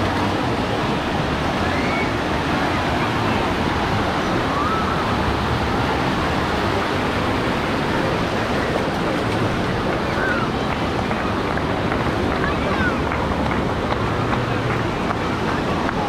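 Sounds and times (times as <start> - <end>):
faint distant voices: 0.0 - 16.0
ocean surf on a beach: 0.0 - 16.0.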